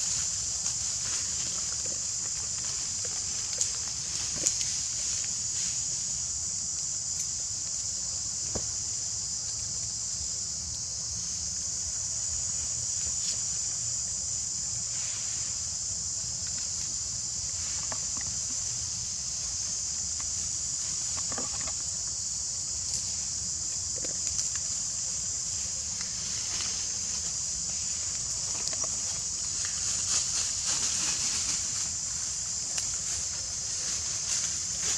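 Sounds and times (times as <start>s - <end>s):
insects droning: 0.0s - 34.9s.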